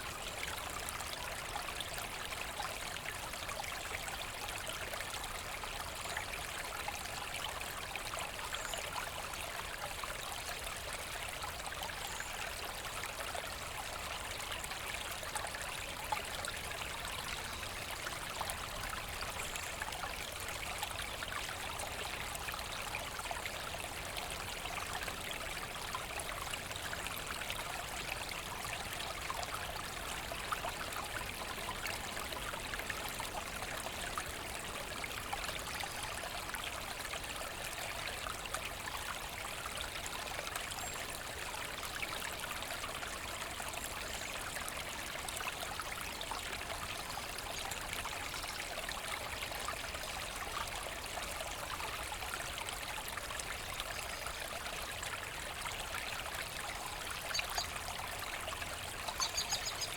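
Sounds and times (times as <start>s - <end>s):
brook water trickling: 0.0s - 59.9s.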